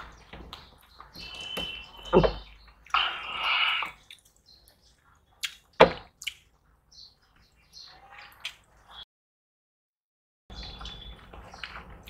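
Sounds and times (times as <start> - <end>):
wet eating squelches: 0.0 - 9.0, 10.6 - 12.0.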